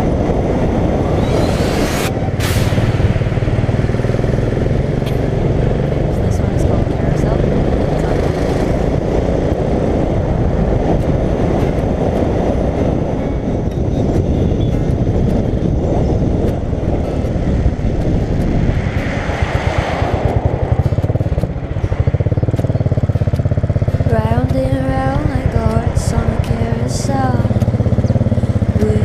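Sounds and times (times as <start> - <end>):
wind rush on helmet camera: 0.0 - 29.0
motorcycle engine thumping: 2.1 - 29.0.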